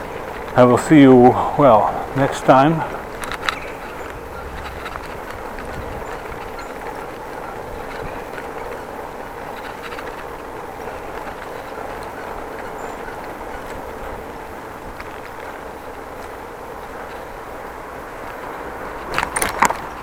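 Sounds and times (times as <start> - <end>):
bicycle tyres rolling on road: 0.0 - 20.0
bike ticking and rattling: 0.0 - 20.0.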